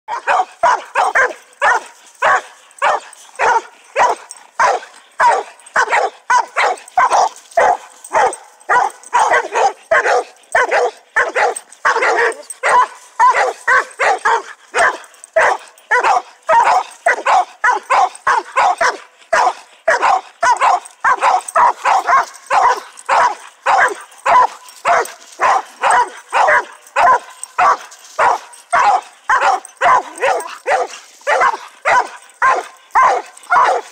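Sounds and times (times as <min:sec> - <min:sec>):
dogs barking: 0:00.1 - 0:33.9.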